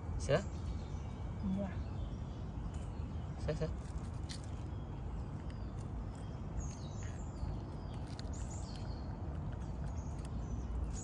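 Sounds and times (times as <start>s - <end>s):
low background noise: 0.0s - 11.0s
small birds chirping: 0.0s - 11.0s.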